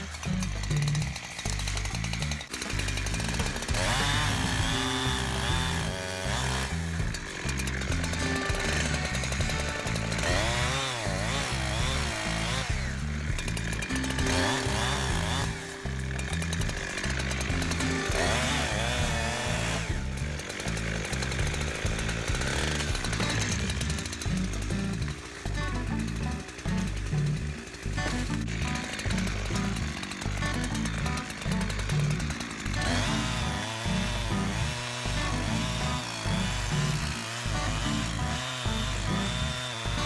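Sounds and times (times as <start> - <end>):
background music with bass line: 0.0 - 40.0
chainsaw cutting: 0.0 - 40.0.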